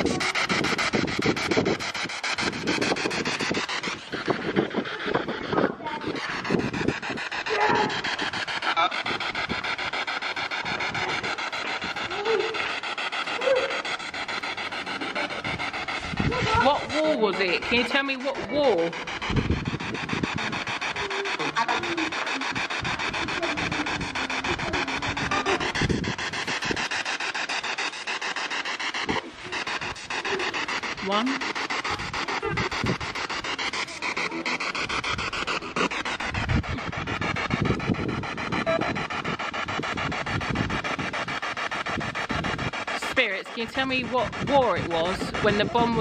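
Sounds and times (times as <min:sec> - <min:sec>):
radio static chopping rapidly: 0:00.0 - 0:46.0.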